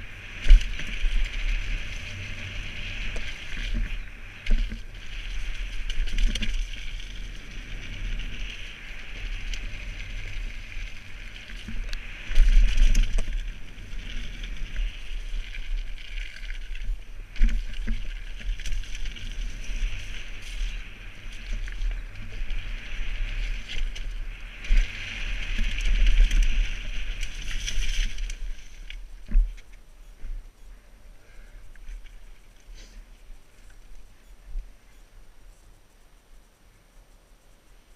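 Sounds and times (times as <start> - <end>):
wind buffeting a camera: 0.0 - 30.8
bike tyres rumbling on dirt: 0.0 - 35.5
bike rattling: 0.0 - 35.7.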